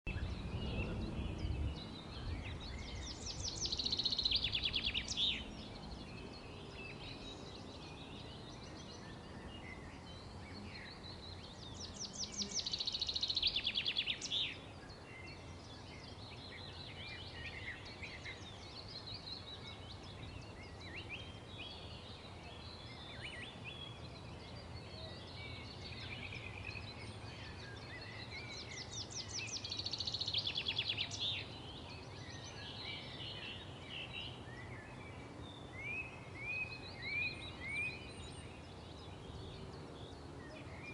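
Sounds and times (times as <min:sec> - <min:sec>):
songbirds singing trilled phrase: 0:00.1 - 0:40.9.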